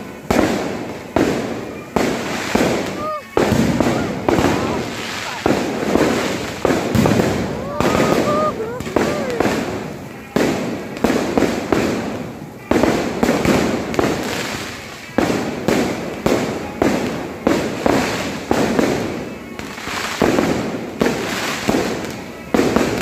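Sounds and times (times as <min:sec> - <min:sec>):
fireworks bangs with crackle: 0:00.0 - 0:23.0.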